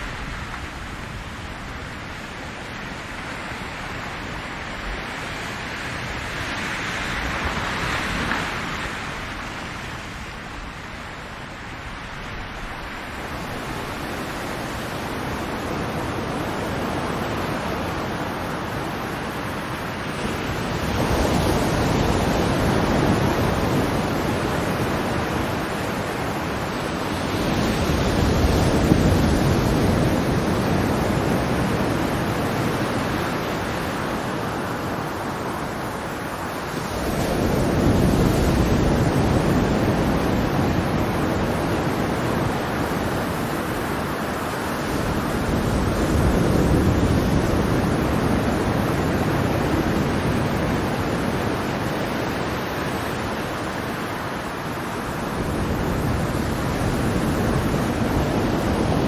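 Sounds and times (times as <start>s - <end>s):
ocean waves washing in: 0.0s - 59.0s.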